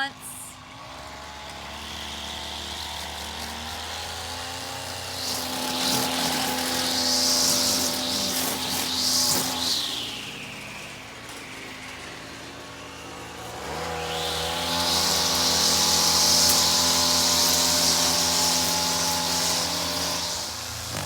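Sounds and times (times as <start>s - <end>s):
string edger motor revving: 0.0s - 21.0s.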